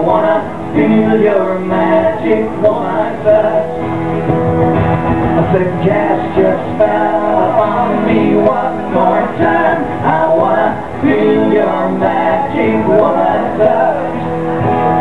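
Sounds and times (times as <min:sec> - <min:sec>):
man singing: 0:00.0 - 0:03.9, 0:05.4 - 0:15.0
strummed acoustic guitars: 0:00.0 - 0:15.0.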